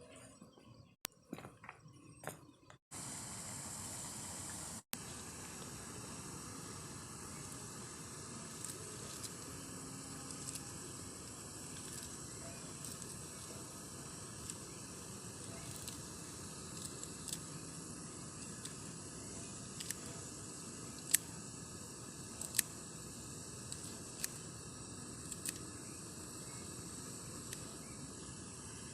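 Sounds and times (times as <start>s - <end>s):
faint high whine: 0.0s - 28.9s
steady outdoor hiss: 0.8s - 28.9s.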